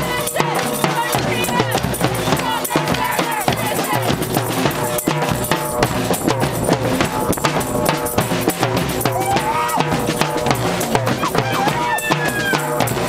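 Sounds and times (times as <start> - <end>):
drumming and banging percussion: 0.0 - 13.0.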